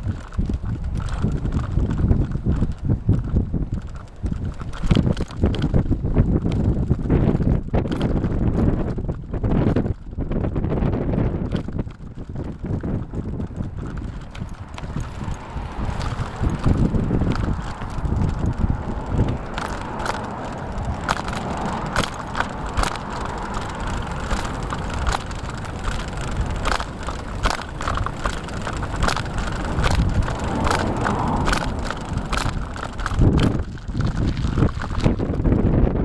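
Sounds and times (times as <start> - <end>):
bicycle clicks and rattles: 0.0 - 36.0
road noise: 0.0 - 36.0
wind on microphone: 0.0 - 36.0.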